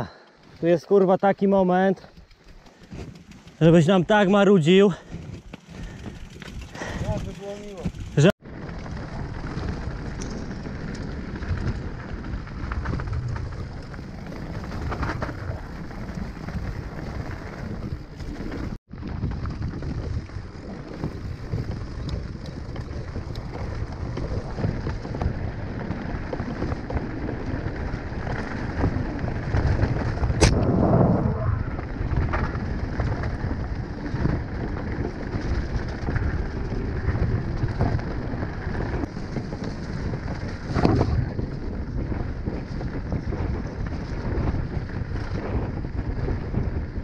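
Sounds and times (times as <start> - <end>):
bike rattling over stones: 0.1 - 47.0
bike tyres crunching on stones: 0.5 - 47.0
wind buffeting microphone: 1.8 - 47.0.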